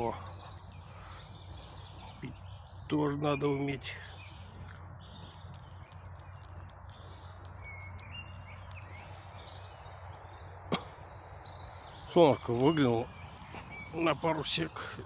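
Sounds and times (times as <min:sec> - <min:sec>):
distant bird chirps: 0:00.0 - 0:15.0.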